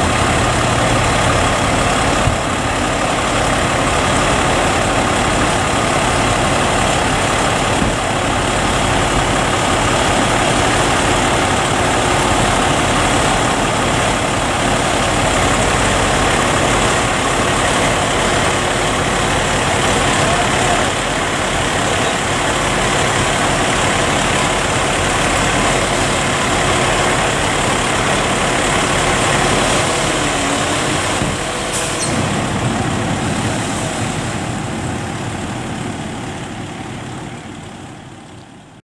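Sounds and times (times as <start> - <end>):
fire truck engines running: 0.0 - 38.8.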